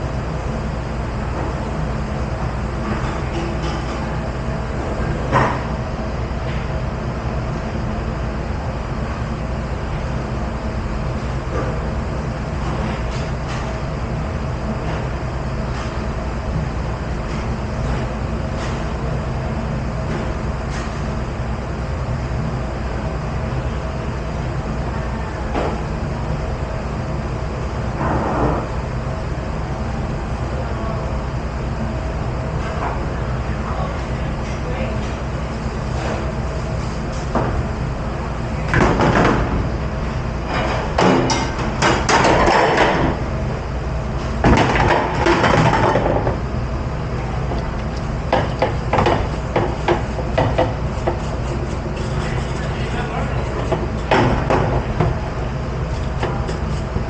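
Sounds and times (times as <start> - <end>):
dishwashing machinery rumbling: 0.0 - 57.0.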